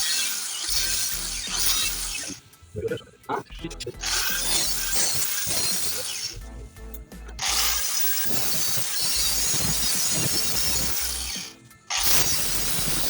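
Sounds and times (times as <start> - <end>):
harsh metalwork noise on exhaust pipe: 0.0 - 2.6, 3.8 - 13.0
background music: 0.0 - 13.0.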